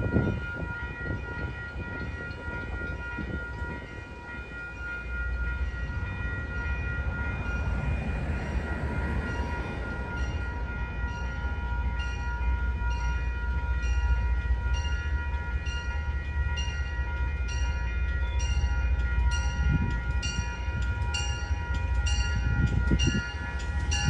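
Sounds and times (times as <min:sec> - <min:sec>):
diesel train engine rumble: 0:00.0 - 0:24.0.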